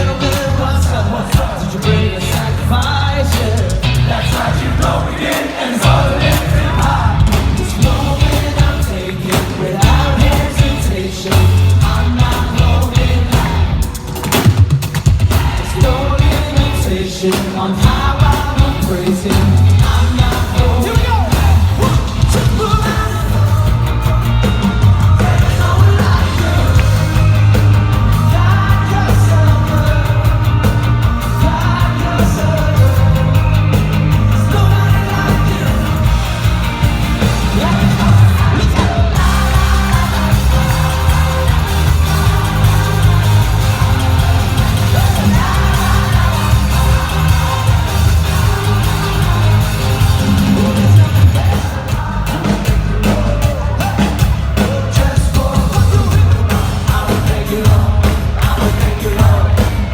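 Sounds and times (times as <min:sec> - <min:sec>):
person singing: 0:00.0 - 0:14.2, 0:15.3 - 0:36.6, 0:37.2 - 0:59.9
heavy bass line: 0:00.0 - 0:59.9
live rock-pop band playing: 0:00.0 - 0:59.9.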